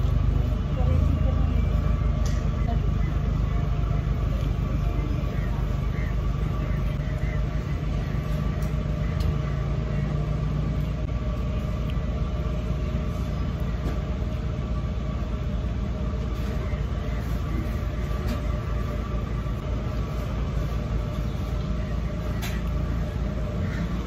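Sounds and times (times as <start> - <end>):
constant hum: 0.0 - 24.0
motor running with low rumble: 0.0 - 24.0.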